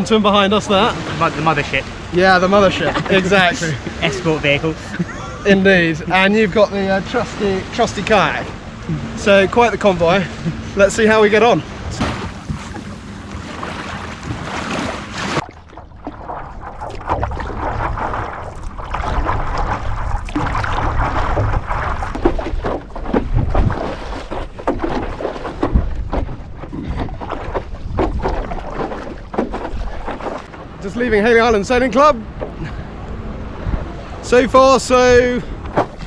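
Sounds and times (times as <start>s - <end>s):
water splashing and sloshing: 0.0s - 36.0s
wind buffeting microphone: 0.0s - 36.0s
paddle strokes splashing: 0.7s - 5.4s, 6.6s - 34.3s, 34.9s - 36.0s.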